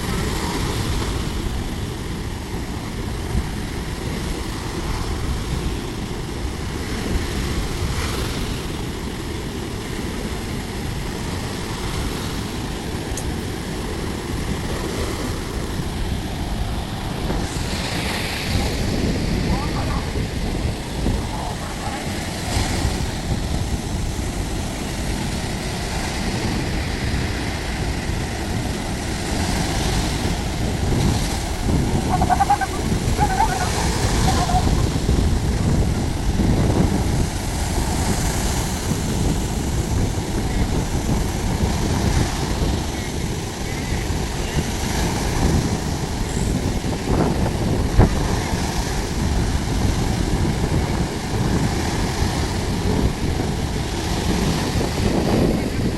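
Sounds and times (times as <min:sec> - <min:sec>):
surf washing onto beach: 0:00.0 - 0:55.9
wind rumbling on microphone: 0:00.0 - 0:55.9.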